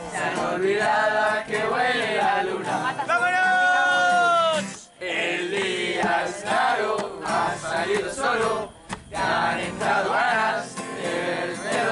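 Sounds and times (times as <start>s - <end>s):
strummed acoustic guitar: 0.0s - 11.9s
young voices singing together: 0.0s - 11.9s.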